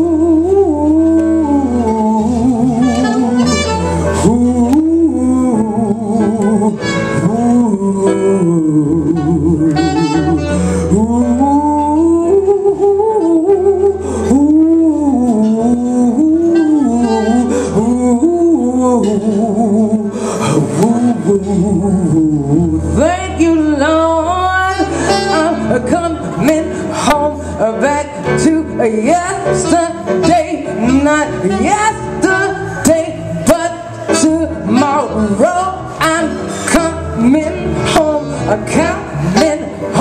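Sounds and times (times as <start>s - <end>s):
band accompaniment: 0.0s - 40.0s.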